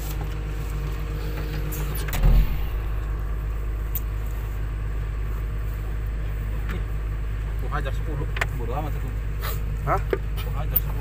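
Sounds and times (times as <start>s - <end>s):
diesel engine low hum: 0.0s - 11.0s.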